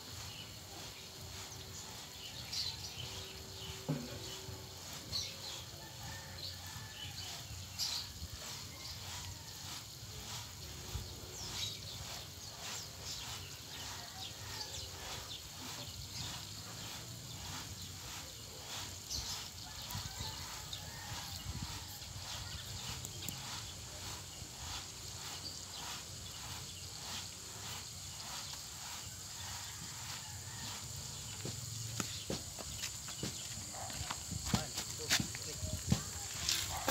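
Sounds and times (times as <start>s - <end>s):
birds chirping: 0.0s - 36.9s
sand sifting through mesh screen: 0.0s - 36.9s.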